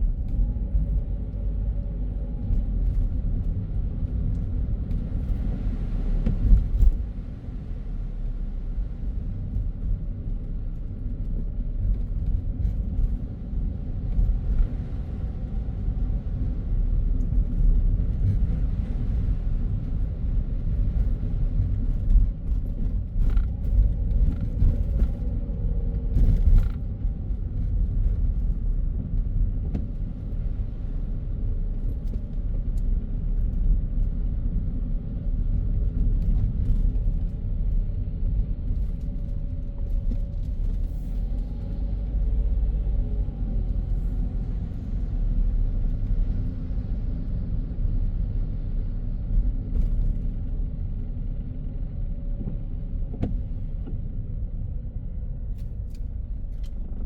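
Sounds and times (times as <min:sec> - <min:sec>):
car tyres and engine rumble: 0:00.0 - 0:57.0.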